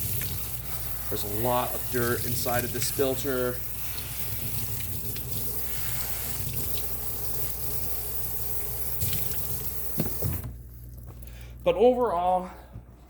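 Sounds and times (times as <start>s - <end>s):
water splashing over a filter: 0.0s - 11.4s
sink tap running: 0.0s - 11.5s.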